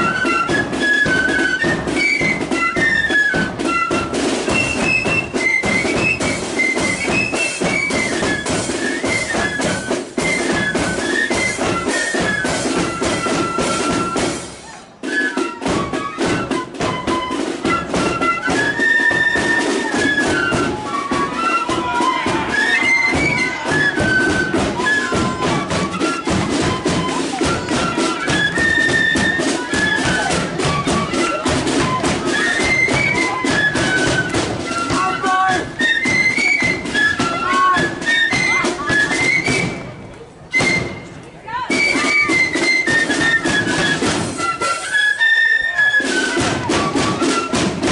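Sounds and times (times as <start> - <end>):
snare and bass drums: 0.0 - 44.8, 46.0 - 47.9
flutes playing melody: 0.0 - 47.9.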